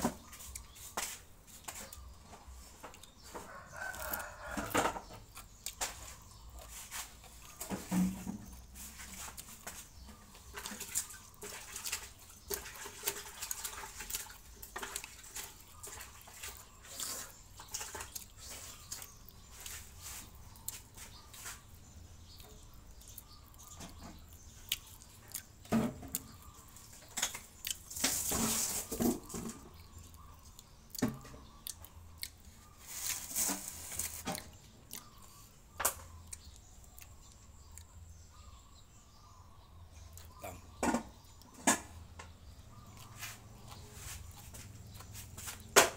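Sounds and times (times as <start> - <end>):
person chewing: 0.3 - 4.7, 5.3 - 7.6, 8.5 - 28.0, 29.2 - 38.1, 40.1 - 40.6, 42.8 - 45.4.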